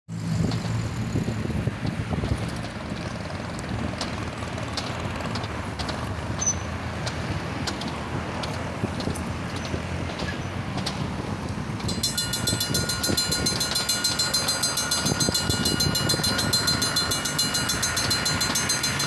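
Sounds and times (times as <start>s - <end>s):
cars driving past: 0.1s - 19.0s.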